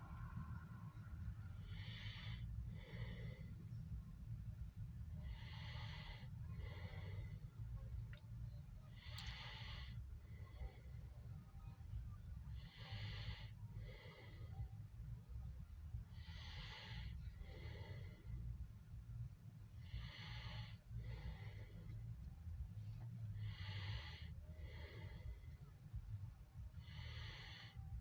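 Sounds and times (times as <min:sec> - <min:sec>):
low steady rumble: 0:00.0 - 0:28.0
person breathing close: 0:01.0 - 0:04.2, 0:05.0 - 0:08.1, 0:08.9 - 0:11.4, 0:12.5 - 0:18.8, 0:19.7 - 0:28.0.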